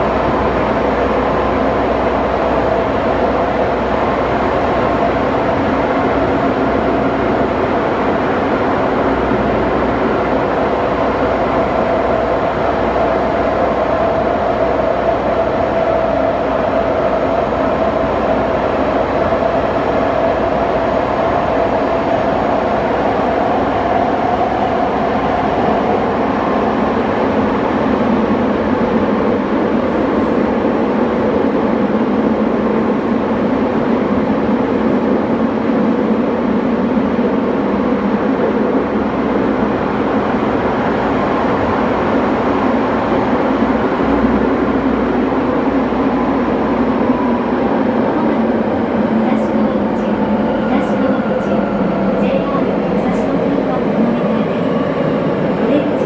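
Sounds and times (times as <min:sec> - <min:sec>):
train wheels rumbling in tunnel: 0:00.0 - 0:56.0
train whine: 0:00.0 - 0:56.0.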